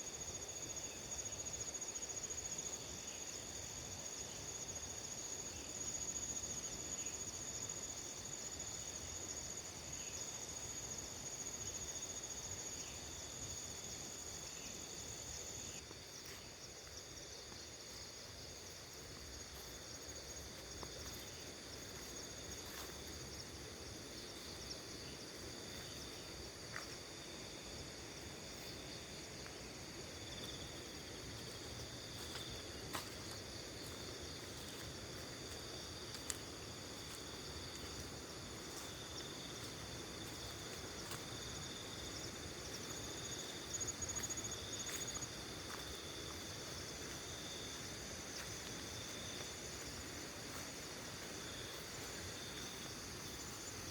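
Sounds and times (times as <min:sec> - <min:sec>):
crickets and insects trilling: 0:00.0 - 0:53.9
rapidly pulsing insect trill: 0:00.0 - 0:53.9.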